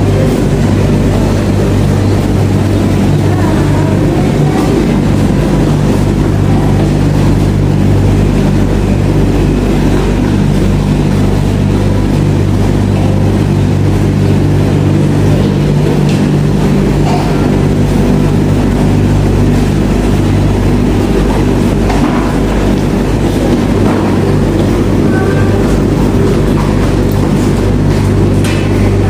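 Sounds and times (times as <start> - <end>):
tumble dryers humming: 0.0 - 29.0.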